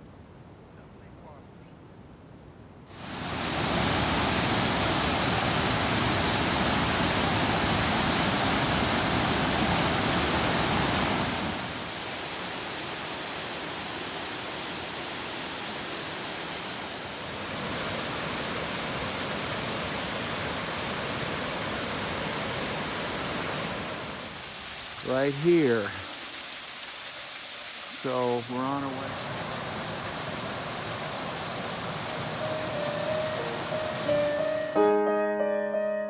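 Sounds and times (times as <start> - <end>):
waterfall rushing: 2.9 - 35.0.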